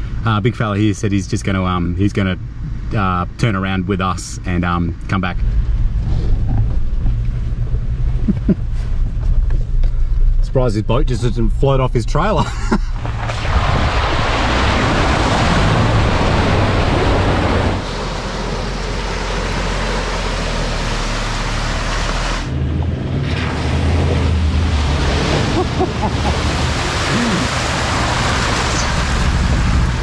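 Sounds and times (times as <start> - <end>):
low engine drone: 0.0 - 30.0
rushing wind and tyres: 4.4 - 11.6, 12.7 - 30.0.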